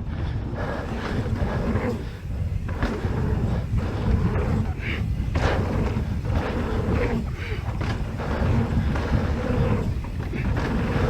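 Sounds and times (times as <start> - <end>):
bike tyres rumbling and rattling: 0.0 - 11.0
wind rush on microphone: 0.0 - 11.0.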